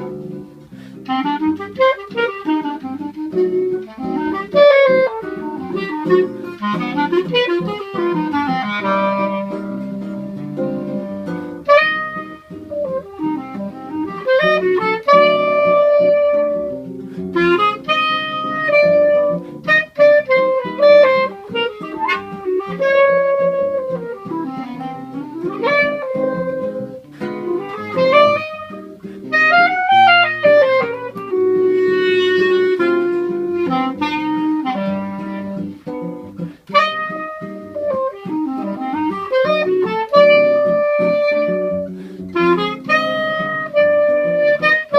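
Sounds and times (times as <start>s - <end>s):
clarinet melody: 0.0s - 44.9s
guitar plucking bass and chords: 0.0s - 44.9s.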